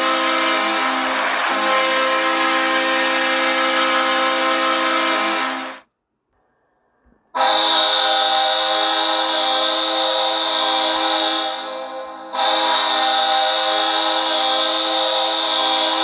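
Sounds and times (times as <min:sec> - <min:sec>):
brighter goal horn: 0:00.0 - 0:05.8, 0:07.4 - 0:16.0
goal horn: 0:00.0 - 0:05.8, 0:07.4 - 0:16.0.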